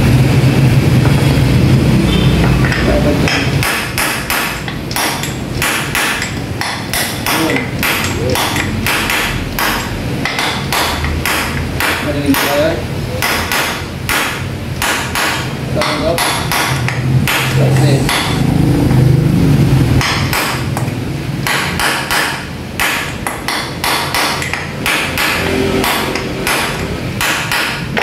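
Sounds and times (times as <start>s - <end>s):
hammer striking punch on metal: 2.1s - 18.5s, 20.0s - 28.0s.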